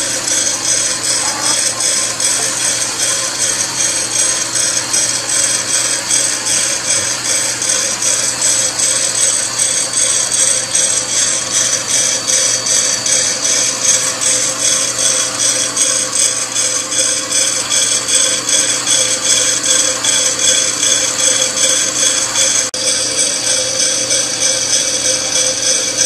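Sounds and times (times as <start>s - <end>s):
beans rattling in rotating drum: 0.0s - 26.0s
motor and exhaust fan hum: 0.0s - 26.0s.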